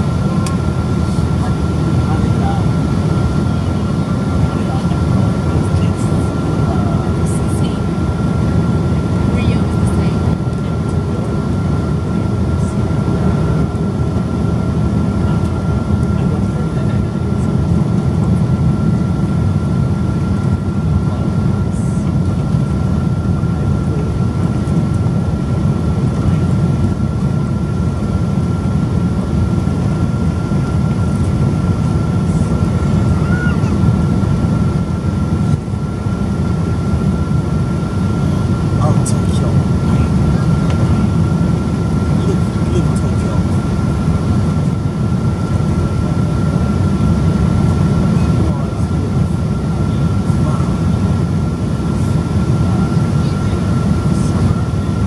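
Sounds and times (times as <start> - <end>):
aircraft cabin rumble: 0.0 - 55.0
thin steady whine: 0.0 - 55.0.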